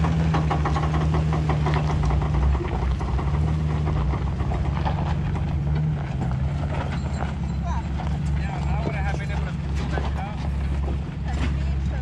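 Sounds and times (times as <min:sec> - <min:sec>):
busy rattling: 0:00.0 - 0:12.0
pickup engine under heavy throttle: 0:00.0 - 0:12.0.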